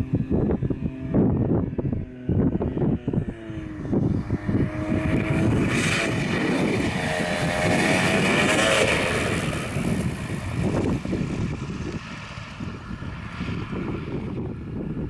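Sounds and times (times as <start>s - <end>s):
light aircraft engine revving: 0.0s - 15.0s.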